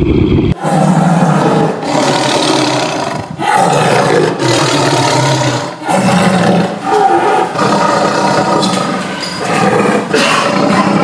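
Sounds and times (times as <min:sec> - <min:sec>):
tiger roaring: 0:00.5 - 0:11.0.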